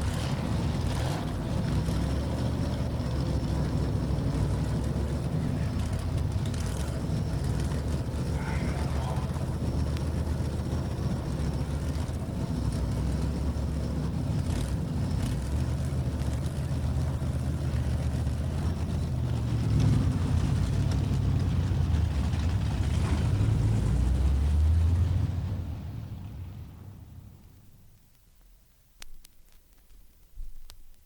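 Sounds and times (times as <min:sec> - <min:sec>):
racing car engine running: 0:00.0 - 0:27.6.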